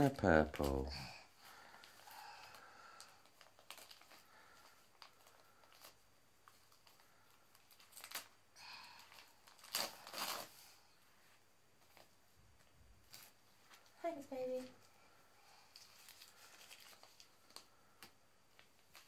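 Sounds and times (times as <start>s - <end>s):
soft crinkling rustles: 0.0s - 19.0s.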